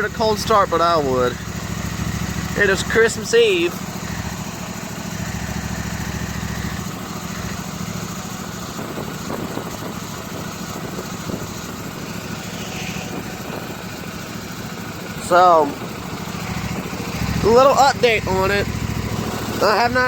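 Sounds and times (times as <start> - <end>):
riding mower engine running: 0.0 - 20.0.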